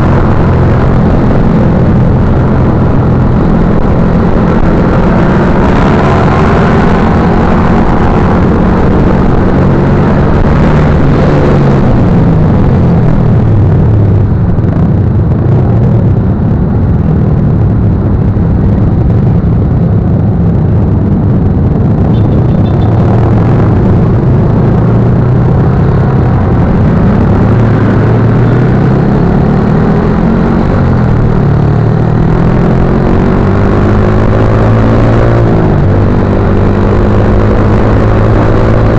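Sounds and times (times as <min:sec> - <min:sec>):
motorcycle engine revving: 0:00.0 - 0:38.9
steady rushing noise: 0:00.0 - 0:38.9.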